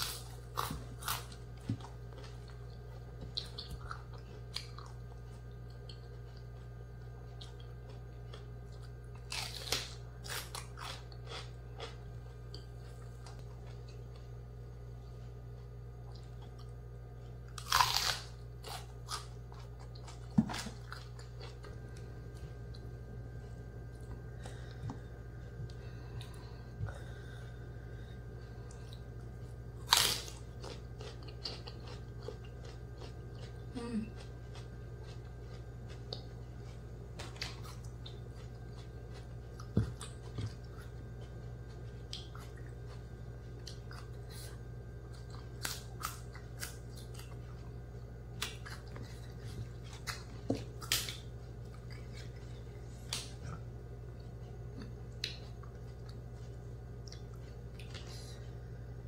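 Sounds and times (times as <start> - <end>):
crunchy chewing of leafy greens: 0.0 - 58.6
steady low hum: 0.0 - 59.0.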